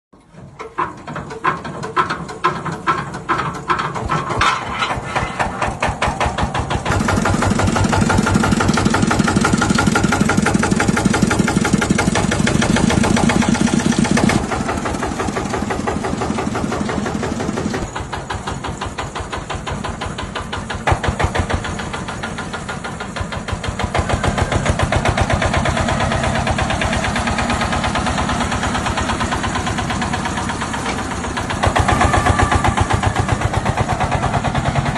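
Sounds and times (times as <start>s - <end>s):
engine running: 0.2s - 34.9s.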